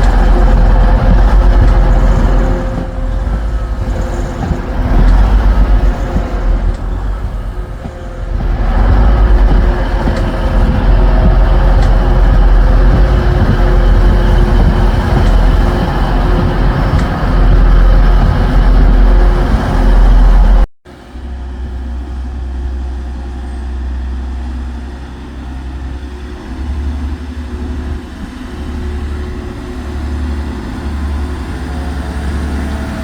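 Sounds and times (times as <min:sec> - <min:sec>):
diesel train engine rumble: 0:00.0 - 0:33.0.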